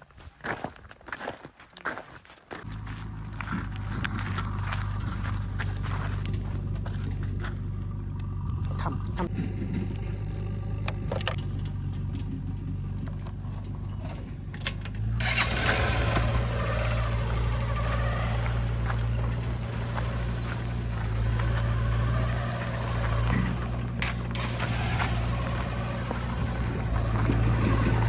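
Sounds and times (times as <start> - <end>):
heavy diesel engine running: 2.7 - 28.0.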